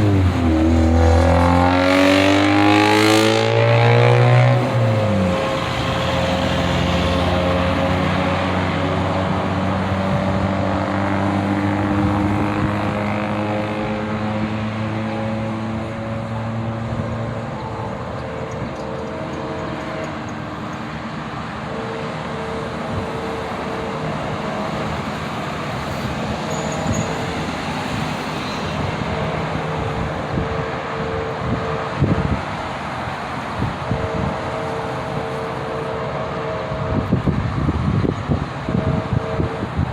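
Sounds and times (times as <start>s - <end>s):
diesel locomotive engine drone: 0.0s - 39.9s
traffic noise: 0.0s - 39.9s.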